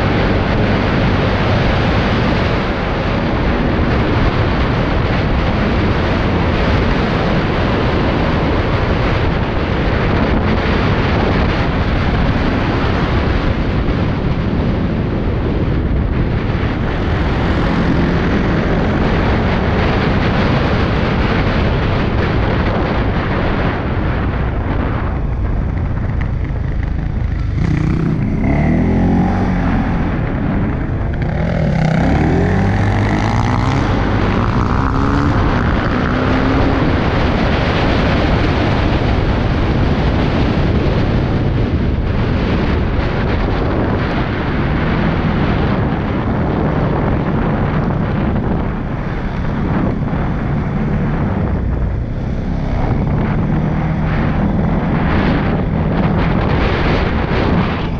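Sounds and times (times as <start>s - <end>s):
atv engine running: 0.0s - 57.9s
wind noise on microphone: 0.0s - 57.9s.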